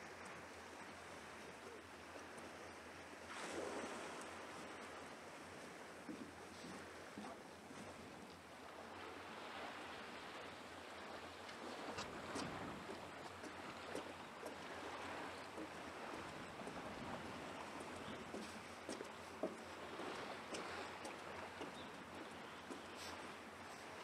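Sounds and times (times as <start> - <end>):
seaside wind: 0.0 - 24.0
small waves washing: 0.0 - 24.0.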